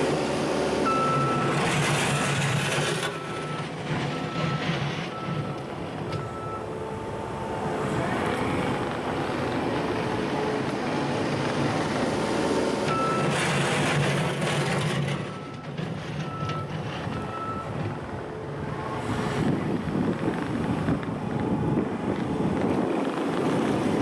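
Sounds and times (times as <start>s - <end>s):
diesel loader engine running: 0.0s - 24.0s.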